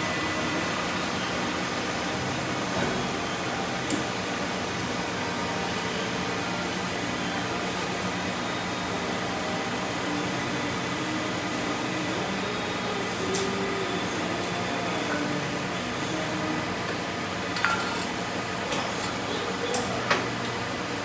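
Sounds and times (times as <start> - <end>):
vacuum pump running: 0.0 - 21.0.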